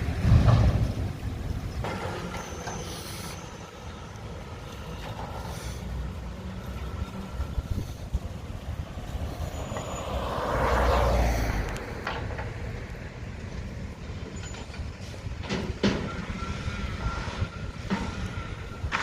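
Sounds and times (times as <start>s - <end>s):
garbage truck running: 0.0s - 11.1s, 11.9s - 19.0s.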